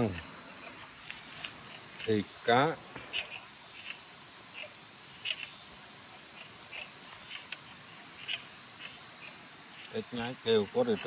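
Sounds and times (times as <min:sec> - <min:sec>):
frog calling: 0:00.0 - 0:11.0
insects buzzing: 0:00.0 - 0:11.0.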